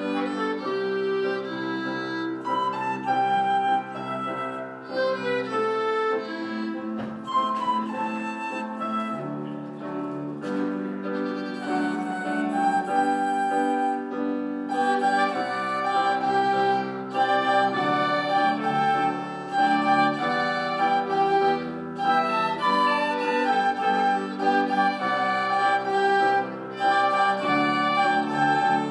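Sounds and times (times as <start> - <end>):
flute: 0.0 - 28.9
piano: 0.0 - 28.9
small wind instrument: 0.0 - 28.9
violin: 0.0 - 28.9.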